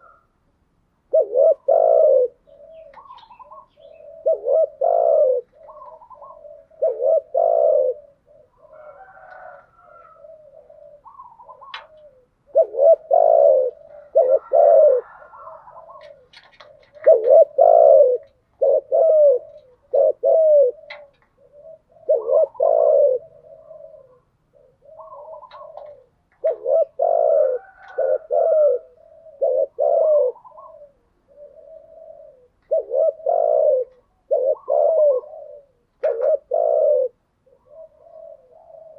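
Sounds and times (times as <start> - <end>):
doves cooing: 0.0 - 38.9
soft high bird calls: 1.2 - 38.9.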